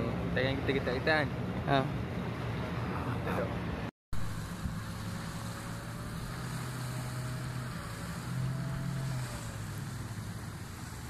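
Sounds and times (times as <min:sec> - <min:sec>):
wind: 0:00.0 - 0:11.0
distant motorboat engine droning: 0:00.1 - 0:11.0.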